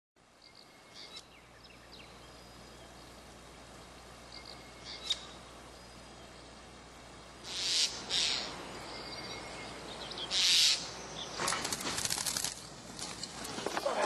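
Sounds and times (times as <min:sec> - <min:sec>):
outdoor background hiss: 0:00.2 - 0:14.0.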